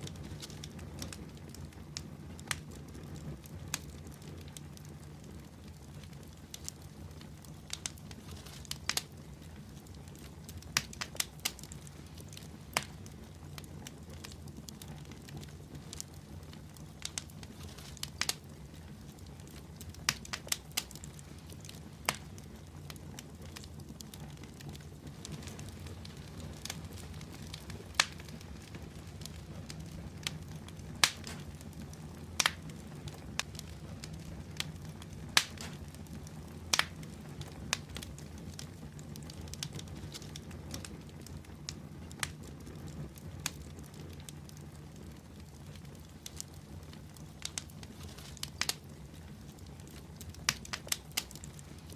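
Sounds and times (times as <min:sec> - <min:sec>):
fire crackling and popping: 0:00.0 - 0:51.9
low rumble of flames: 0:00.0 - 0:51.9.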